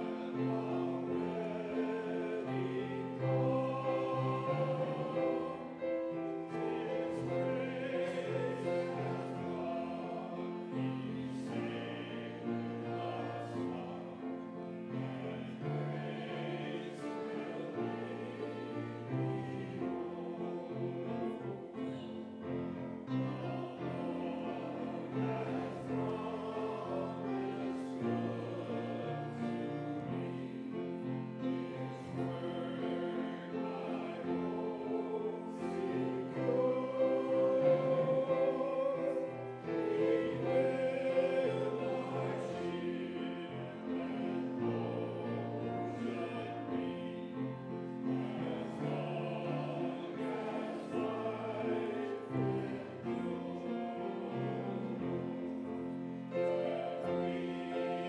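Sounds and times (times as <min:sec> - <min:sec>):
congregation singing a hymn: 0:00.0 - 0:58.0
piano accompaniment: 0:00.0 - 0:58.0.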